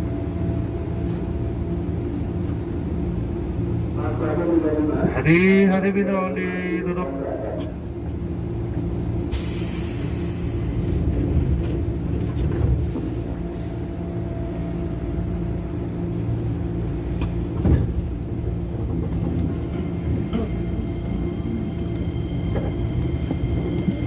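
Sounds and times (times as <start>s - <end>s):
electric train humming: 0.0s - 24.0s.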